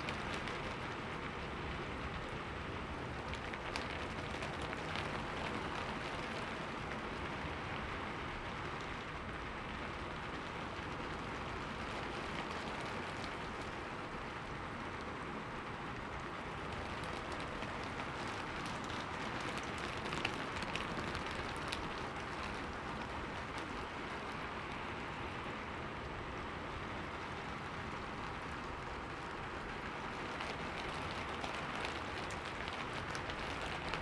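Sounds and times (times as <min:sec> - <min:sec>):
raindrops tapping on window: 0:00.0 - 0:34.0
steady rain: 0:00.0 - 0:34.0.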